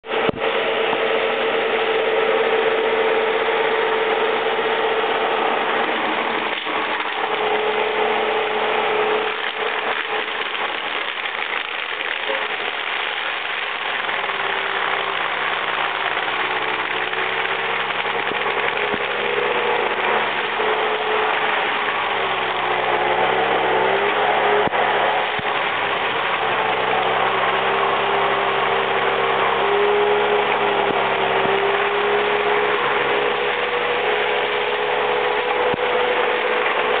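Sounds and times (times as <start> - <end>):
diesel engine running hard: 0.0 - 37.0
mulcher head whining: 0.0 - 37.0.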